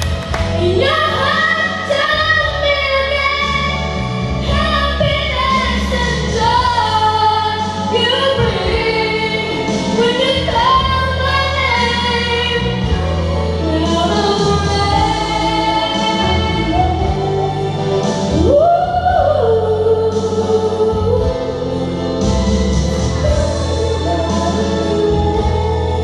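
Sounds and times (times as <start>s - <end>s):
woman singing a ballad: 0.3s - 26.0s.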